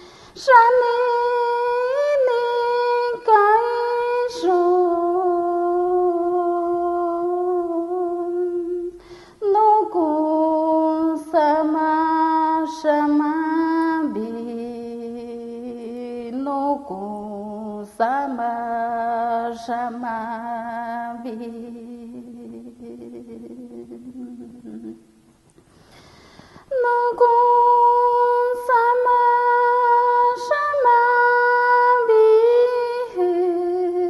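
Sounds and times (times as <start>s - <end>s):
woman chanting unaccompanied: 0.4s - 25.1s, 26.7s - 34.0s.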